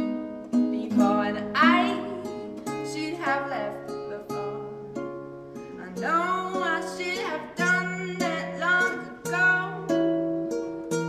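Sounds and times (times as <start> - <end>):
acoustic guitar chords: 0.0 - 11.0
woman singing: 0.5 - 5.0, 5.7 - 10.3.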